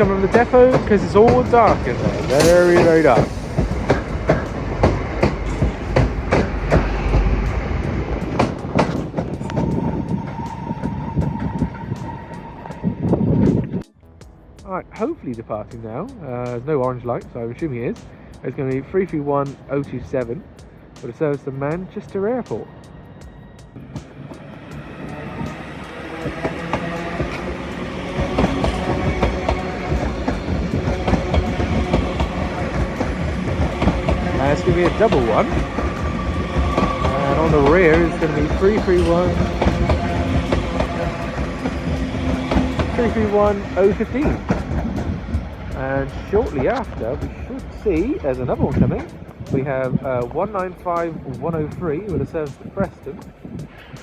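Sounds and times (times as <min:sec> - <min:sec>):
wheels clacking over rail joints: 0:00.0 - 0:13.6, 0:16.5 - 0:54.0
steady high tone: 0:00.0 - 0:14.0, 0:21.2 - 0:51.3
train rumble: 0:00.0 - 0:54.0.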